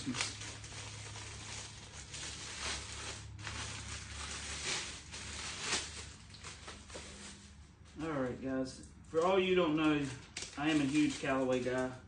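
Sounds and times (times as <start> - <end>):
packaging rustling and crinkling: 0.0 - 8.1, 9.0 - 12.0.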